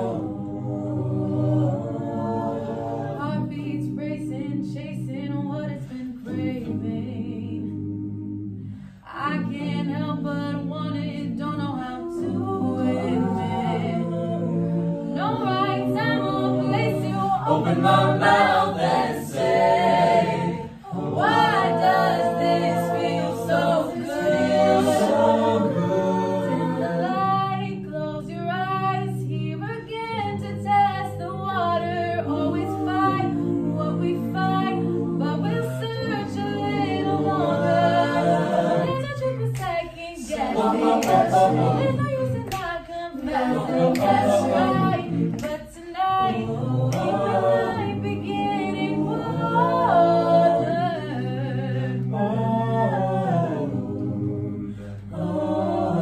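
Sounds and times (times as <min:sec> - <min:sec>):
a cappella group singing: 0:00.0 - 0:56.0.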